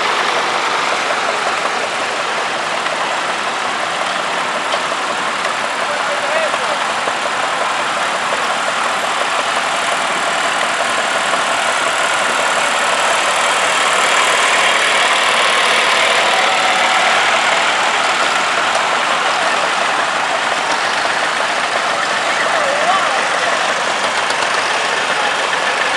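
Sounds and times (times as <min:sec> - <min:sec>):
tractor engines running: 0:00.0 - 0:25.9.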